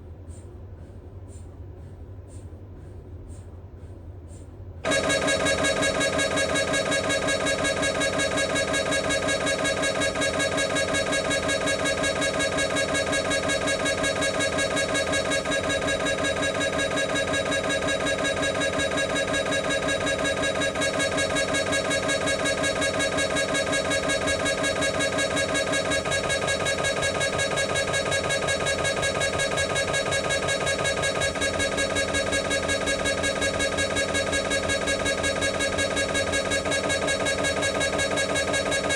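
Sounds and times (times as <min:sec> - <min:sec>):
mri scanner buzzing drone: 0:04.8 - 0:38.9.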